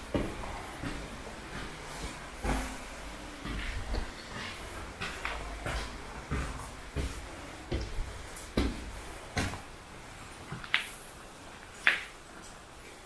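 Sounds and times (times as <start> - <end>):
footsteps walking slowly: 0.0 - 12.6.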